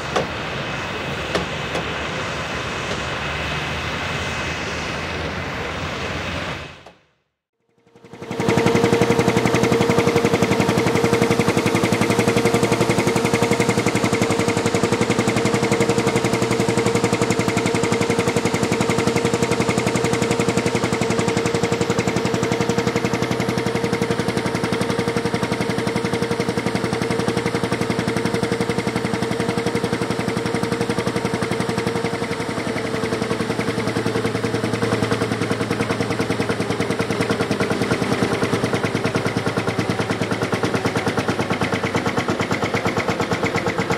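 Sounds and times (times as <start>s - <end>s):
diesel tractor engine running: 0.0s - 7.0s, 7.6s - 43.9s.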